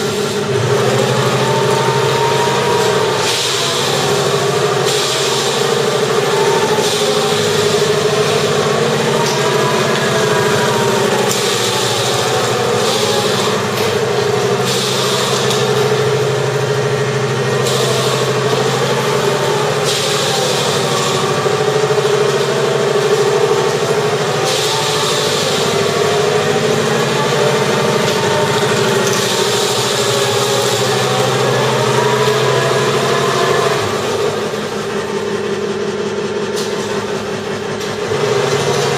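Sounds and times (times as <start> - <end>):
electronic tank engine sound: 0.0 - 38.9
hiss: 0.0 - 38.9.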